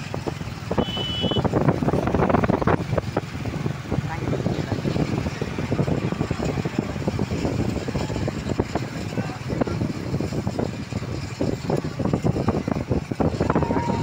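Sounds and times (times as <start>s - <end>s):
motorcycle engines running at speed: 0.0s - 14.0s
road noise: 0.0s - 14.0s
wind noise: 0.0s - 14.0s.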